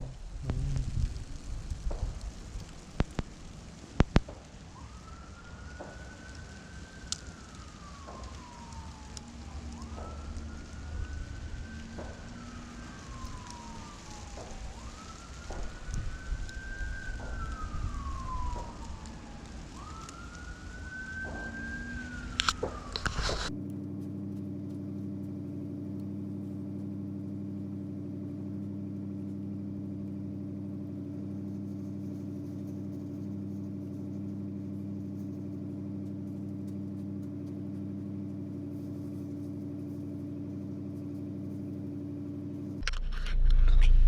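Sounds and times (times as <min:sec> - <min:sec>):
low wind rumble: 0:00.0 - 0:44.0
siren wailing: 0:01.0 - 0:44.0.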